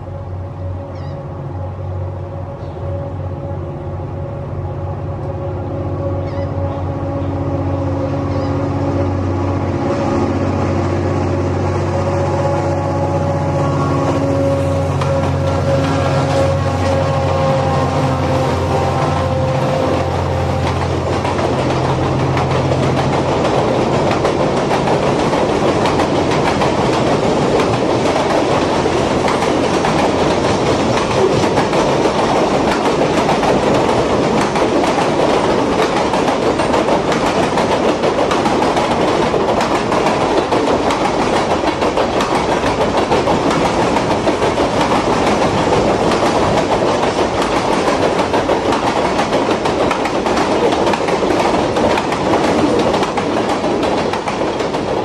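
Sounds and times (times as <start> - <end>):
train wheels clickety-clack: 6.1 - 55.0.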